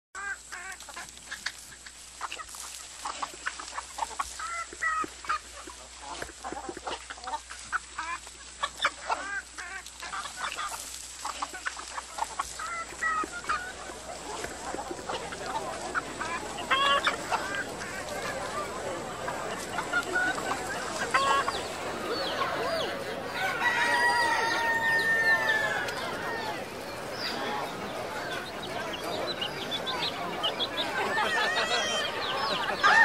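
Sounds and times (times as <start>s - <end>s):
hens clucking: 0.2s - 33.0s.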